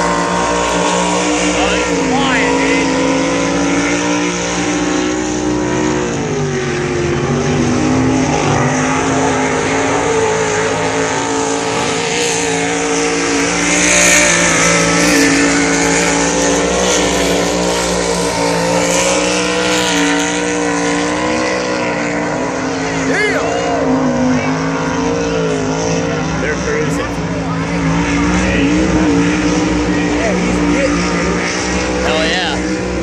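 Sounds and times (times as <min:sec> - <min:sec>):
engines revving high: 0:00.0 - 0:33.0.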